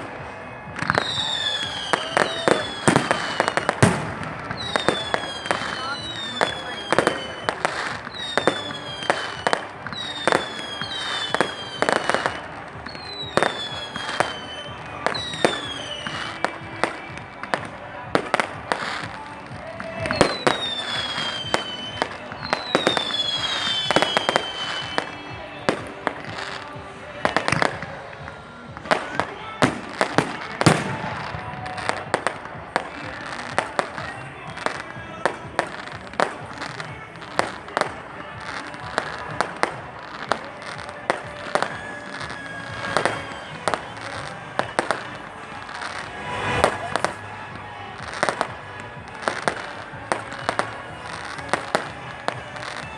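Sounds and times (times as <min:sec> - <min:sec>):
fireworks bangs: 0:00.0 - 0:52.9
fireworks whistles falling in pitch: 0:00.0 - 0:52.9.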